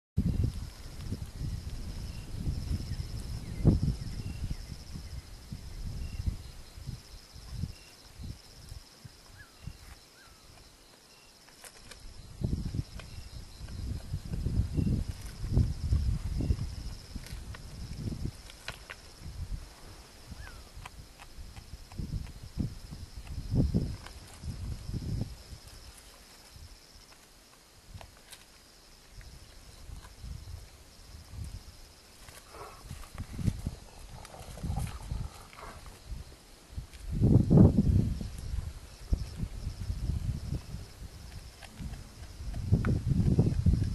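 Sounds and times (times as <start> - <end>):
insects trilling: 0.2 - 43.9.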